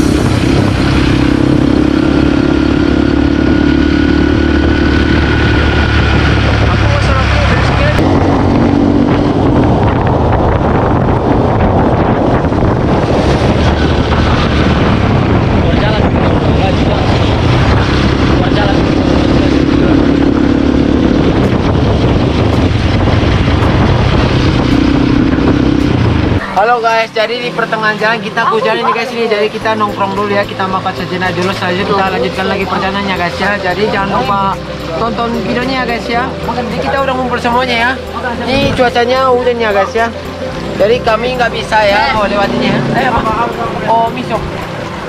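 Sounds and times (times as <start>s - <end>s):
wind rush on microphone: 0.0s - 27.6s, 32.3s - 45.0s
motorcycle engine humming: 0.0s - 45.0s.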